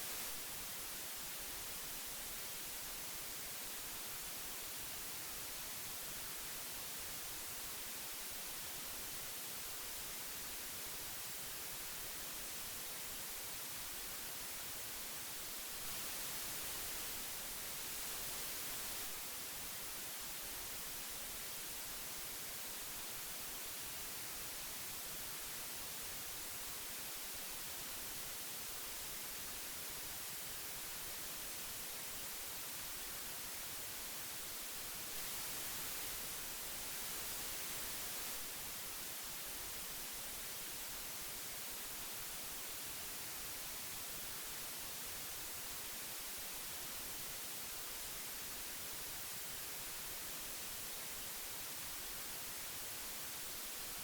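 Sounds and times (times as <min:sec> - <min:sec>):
tape hiss: 0:00.0 - 0:54.0.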